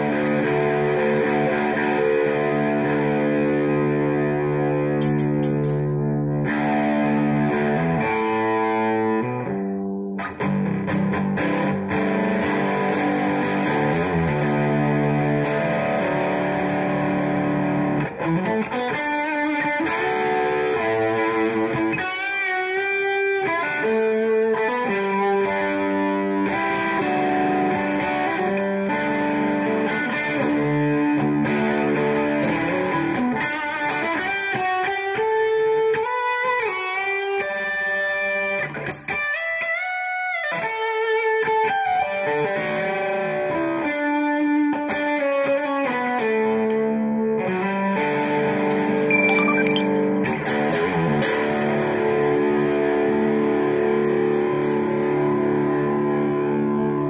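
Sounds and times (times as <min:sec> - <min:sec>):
electric guitar melody: 0:00.0 - 0:57.0.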